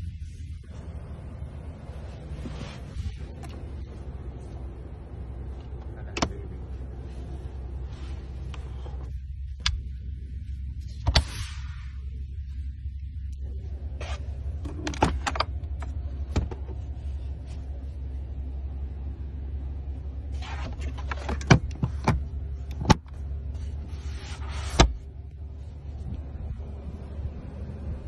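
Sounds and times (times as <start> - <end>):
car engine rumble: 0.0 - 28.0.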